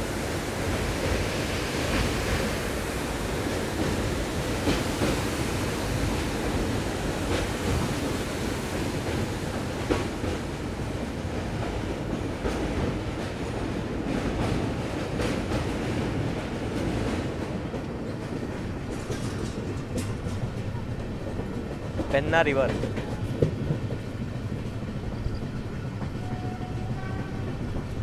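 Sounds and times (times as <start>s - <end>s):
train wheels rumbling on rails: 0.0s - 28.0s
rail joint clacks: 0.5s - 28.0s.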